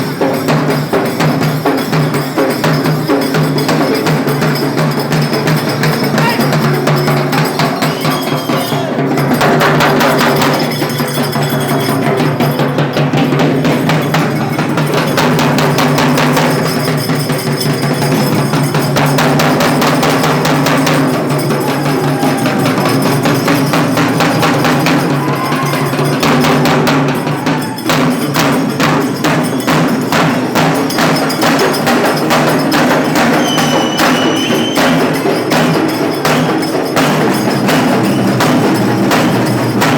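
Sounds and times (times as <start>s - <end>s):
fast dense drumming music: 0.0s - 39.9s.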